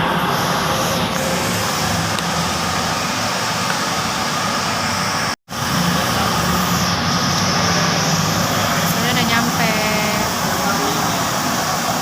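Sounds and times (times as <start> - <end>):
loud background noise with low hum: 0.0 - 12.0.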